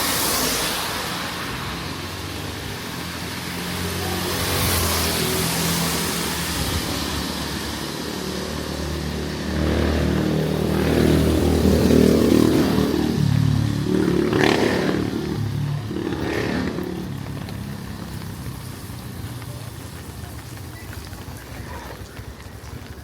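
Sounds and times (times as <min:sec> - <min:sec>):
motorcycle engine passing: 0:00.1 - 0:23.0.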